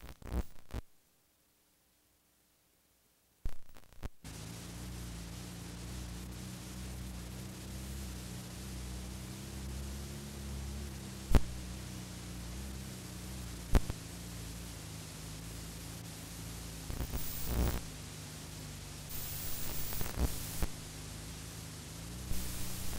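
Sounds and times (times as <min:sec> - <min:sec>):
background hiss: 0:00.0 - 0:22.9
low electrical hum: 0:00.0 - 0:22.9.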